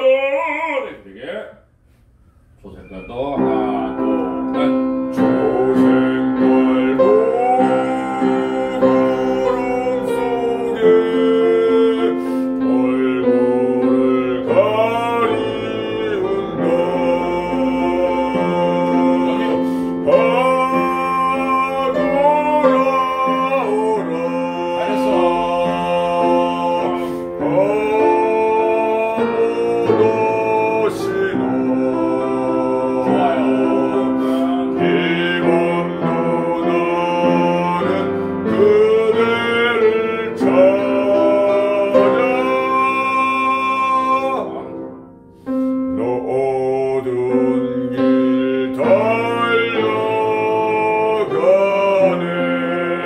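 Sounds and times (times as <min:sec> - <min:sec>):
man singing classical song: 0:00.0 - 0:01.2, 0:02.8 - 0:53.0
instrumental accompaniment: 0:01.9 - 0:53.0.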